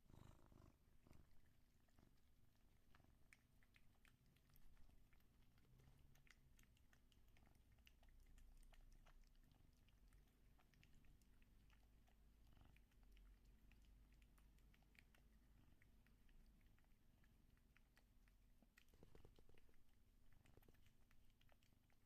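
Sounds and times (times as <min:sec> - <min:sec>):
cat chewing and licking: 0:00.0 - 0:22.0
cat purring: 0:00.0 - 0:22.0.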